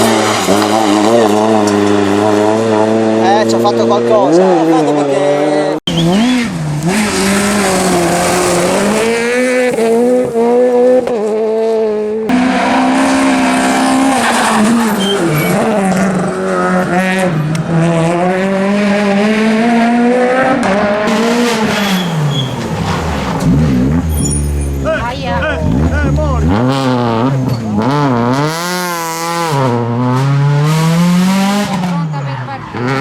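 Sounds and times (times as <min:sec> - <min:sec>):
rally car engine revving hard: 0:00.0 - 0:33.0.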